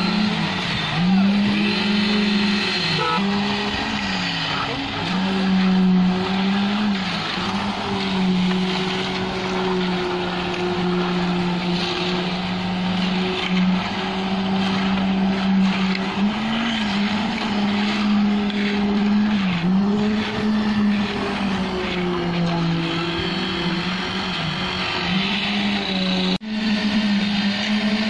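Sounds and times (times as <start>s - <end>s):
rakes scraping wet concrete: 0.0s - 28.0s
truck engine droning: 0.0s - 28.0s.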